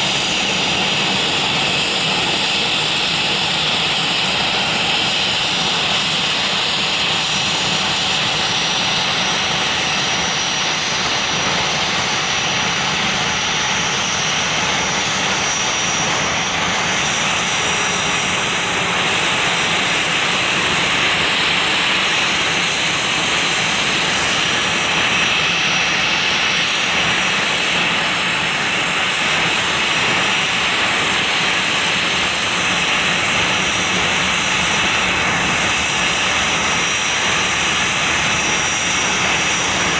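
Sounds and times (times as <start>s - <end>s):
high constant whine: 0.0s - 39.9s
jet engines running: 0.0s - 39.9s.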